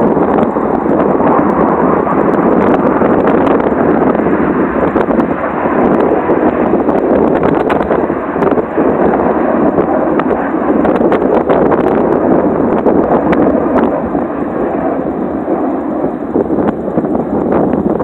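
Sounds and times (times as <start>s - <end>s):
jets flying over: 0.0s - 18.0s
wind on the microphone: 0.0s - 18.0s.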